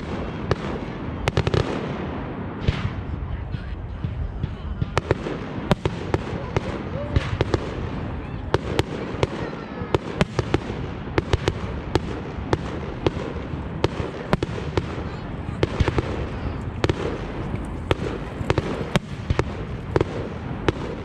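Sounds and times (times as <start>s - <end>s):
fireworks bangs and cracks: 0.0s - 21.0s
low rumble of fireworks bursts: 0.0s - 21.0s.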